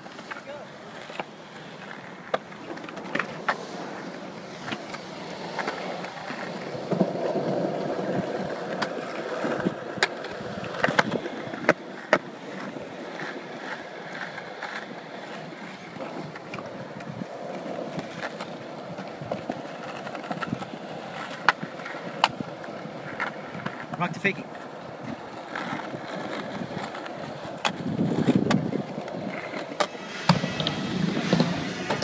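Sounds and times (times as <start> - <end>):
skateboard wheels rolling on concrete: 0.0 - 32.0.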